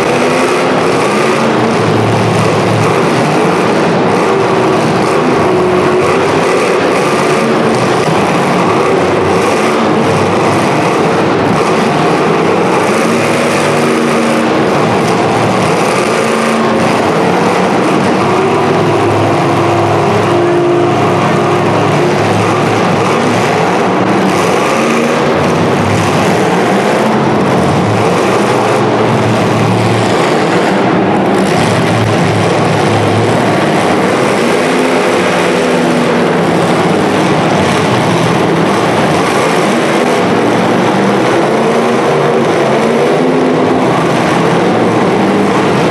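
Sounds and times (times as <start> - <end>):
car engines revving hard: 0.0 - 45.9.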